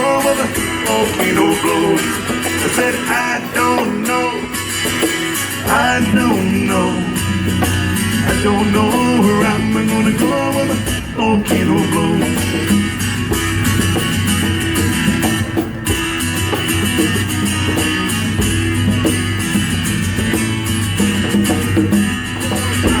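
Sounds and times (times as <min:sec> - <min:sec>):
guitars and bass strumming: 0:00.0 - 0:23.0.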